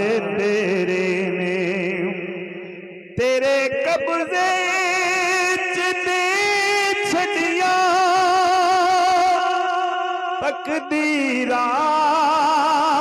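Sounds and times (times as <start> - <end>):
man singing into microphone: 0.0 - 2.5, 3.2 - 13.0.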